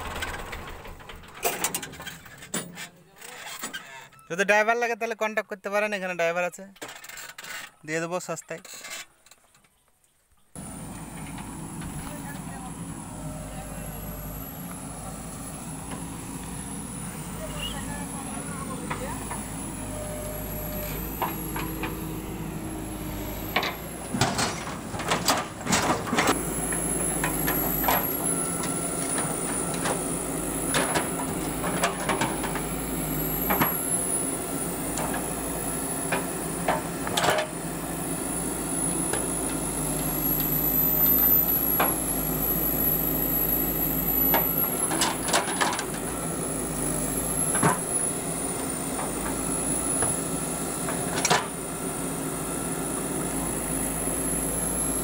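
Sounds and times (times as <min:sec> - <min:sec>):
diesel engine running: 0:00.0 - 0:02.5, 0:10.6 - 0:55.0.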